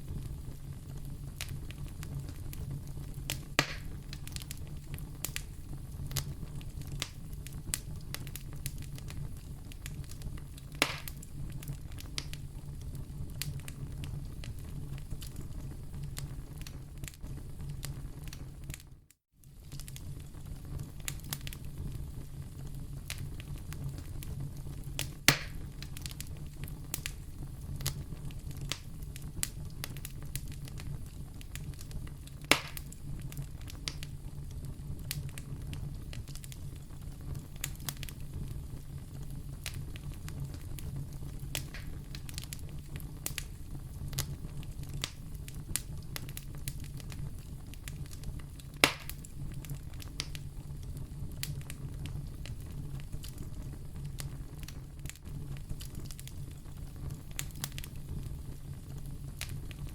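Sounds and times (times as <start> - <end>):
fire pops: 0.0 - 59.9
wood fire crackling: 0.0 - 59.9.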